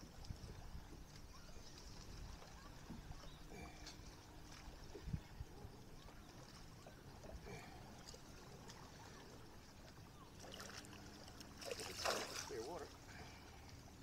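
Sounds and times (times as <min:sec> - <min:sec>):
water lapping against boat: 0:00.0 - 0:14.0.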